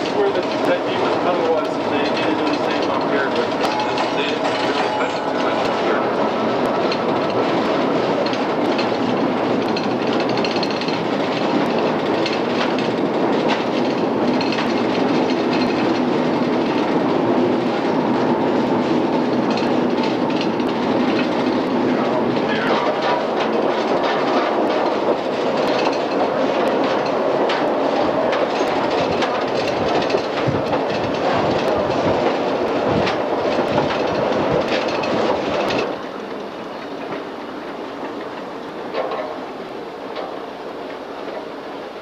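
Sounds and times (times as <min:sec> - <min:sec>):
streetcar wheels rolling on rails: 0:00.0 - 0:42.0.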